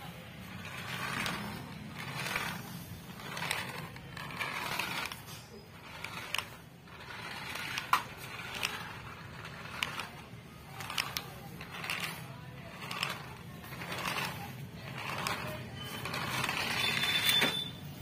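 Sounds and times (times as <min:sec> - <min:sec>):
plastic wheels rolling on tiles: 0:00.0 - 0:18.0
toy car motor whirring: 0:00.2 - 0:17.8.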